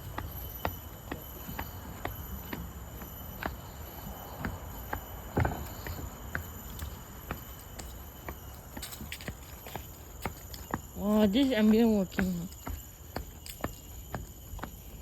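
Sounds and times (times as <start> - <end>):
footsteps on garden path: 0.0 - 15.0
insects droning: 0.0 - 15.0.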